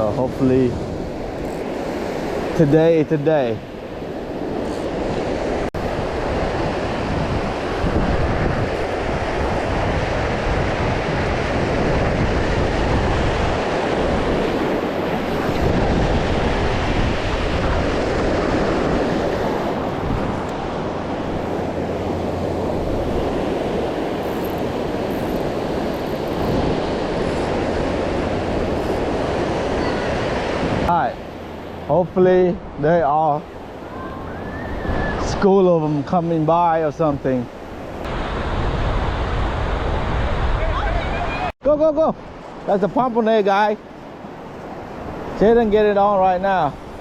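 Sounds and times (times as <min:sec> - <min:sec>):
wind rumbling on microphone: 0:00.0 - 0:41.5
surf washing onto beach: 0:00.0 - 0:47.0.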